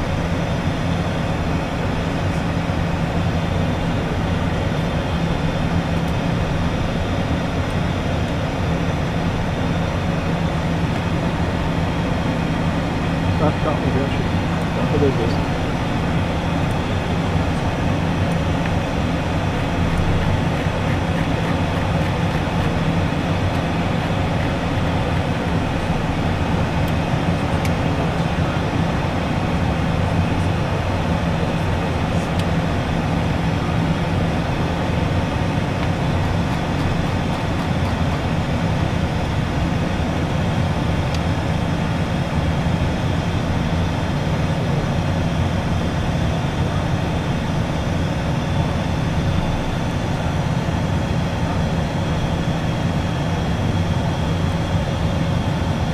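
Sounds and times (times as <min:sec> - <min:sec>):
low jet engine hum: 0:00.0 - 0:55.9.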